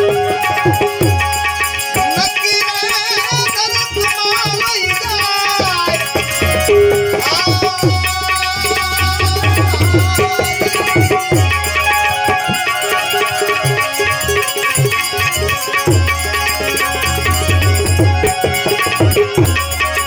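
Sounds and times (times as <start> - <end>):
gliding melodic lead instrument: 0.0 - 20.0
tabla drumming: 0.0 - 20.0.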